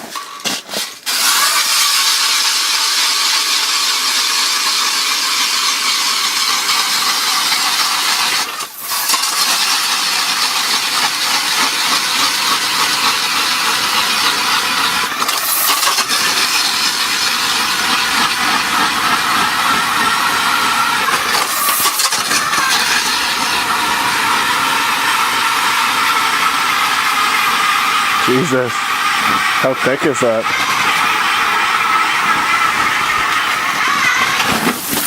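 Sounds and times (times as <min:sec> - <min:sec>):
ice auger grinding: 0:00.0 - 0:35.0.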